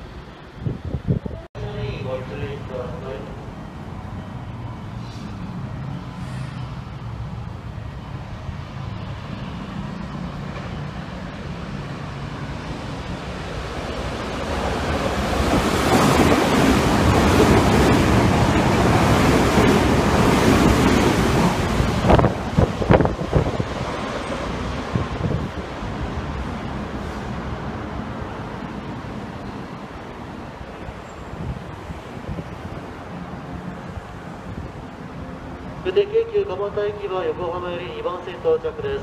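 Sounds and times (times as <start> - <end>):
train passing at high speed: 0.0 - 39.0.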